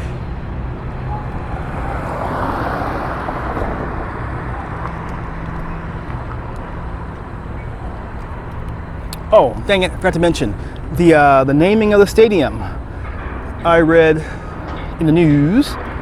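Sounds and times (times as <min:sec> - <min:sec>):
low engine drone: 0:00.0 - 0:16.0
vehicle passing: 0:00.0 - 0:16.0.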